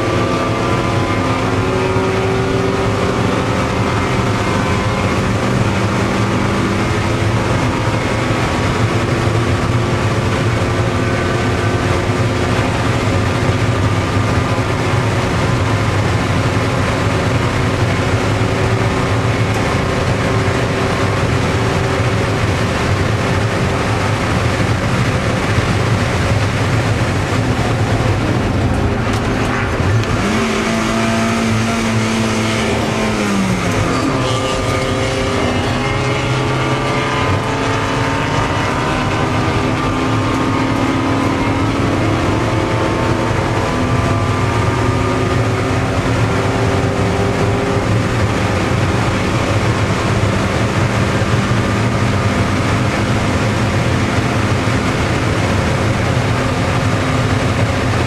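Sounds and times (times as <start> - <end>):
car engine at high revs: 0.0 - 58.0
wind and road noise: 0.0 - 58.0.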